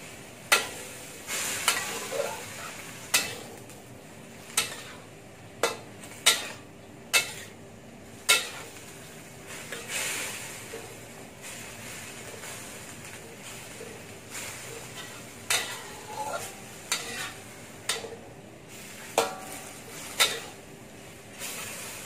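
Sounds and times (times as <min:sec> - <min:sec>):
food frying sizzle: 0:00.0 - 0:22.0.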